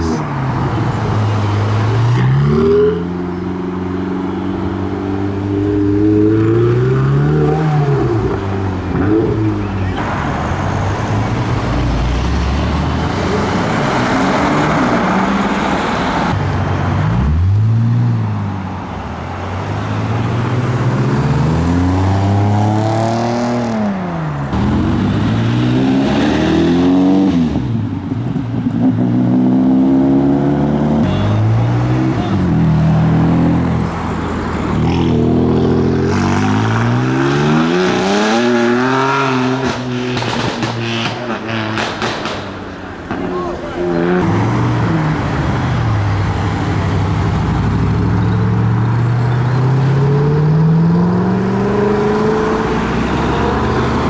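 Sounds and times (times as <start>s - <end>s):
car engines accelerating hard: 0.0s - 54.0s.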